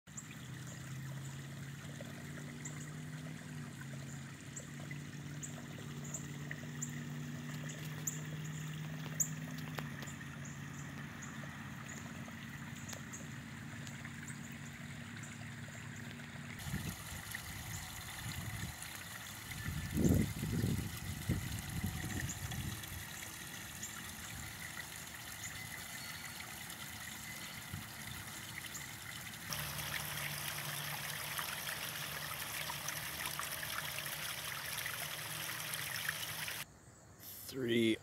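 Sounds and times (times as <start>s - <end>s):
water trickling into a pond: 0.1s - 36.7s.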